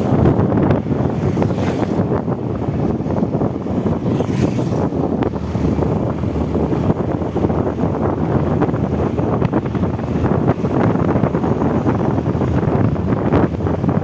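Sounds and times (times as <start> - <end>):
motorbike road and engine noise: 0.0 - 14.0
wind buffeting microphone: 0.0 - 14.0.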